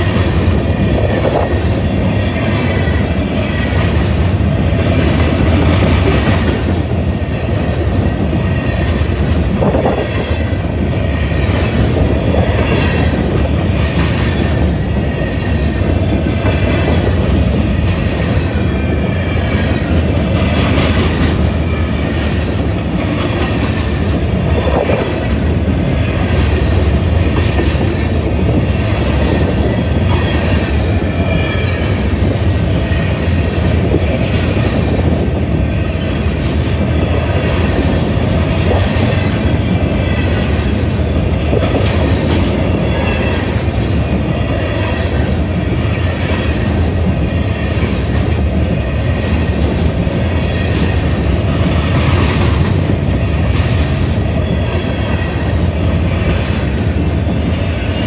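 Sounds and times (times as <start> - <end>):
wheels clacking over rail joints: 0.0 - 58.0.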